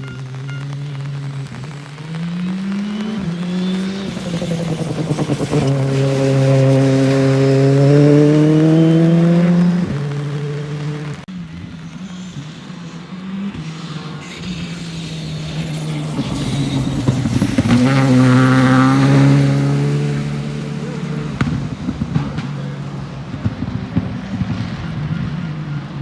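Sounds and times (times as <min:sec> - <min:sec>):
rally car engine passing by: 0:00.0 - 0:26.0.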